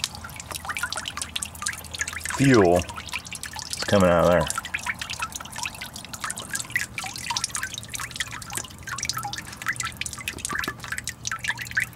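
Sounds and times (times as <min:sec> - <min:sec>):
fuel dripping into container: 0:00.0 - 0:11.9.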